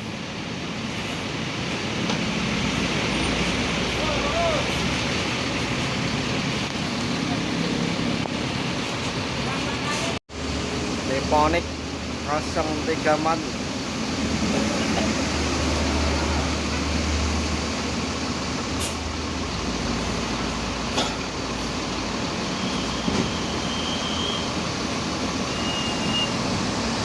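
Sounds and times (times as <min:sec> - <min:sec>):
bus engine and road noise: 0:00.0 - 0:27.0.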